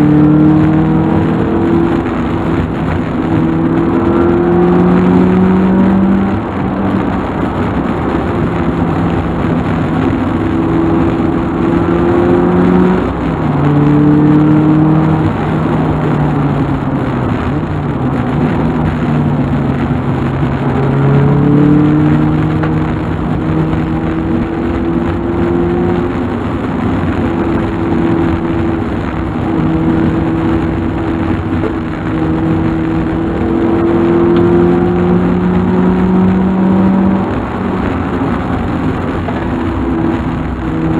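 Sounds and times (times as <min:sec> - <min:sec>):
car engine: 0:00.0 - 0:40.9
road noise: 0:00.0 - 0:40.9.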